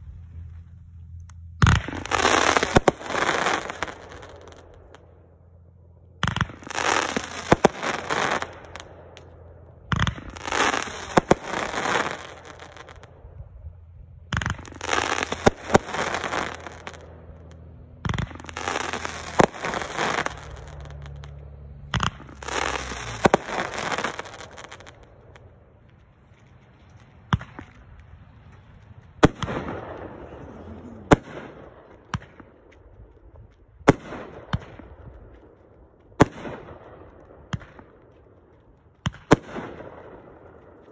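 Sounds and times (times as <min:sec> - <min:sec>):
firework volleys crackling: 0:00.0 - 0:05.4, 0:06.2 - 0:40.9
single firework shots with bursts: 0:01.6 - 0:05.4, 0:06.2 - 0:40.9.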